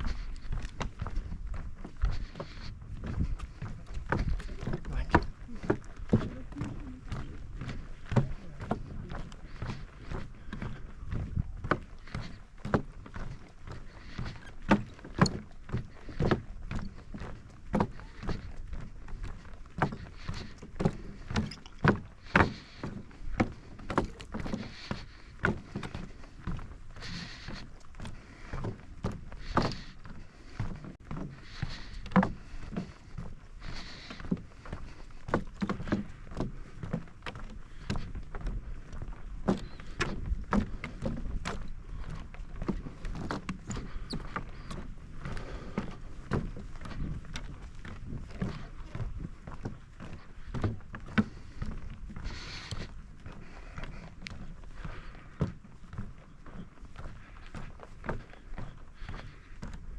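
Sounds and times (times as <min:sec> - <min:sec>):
footsteps on hard walkway: 0:00.0 - 0:59.9.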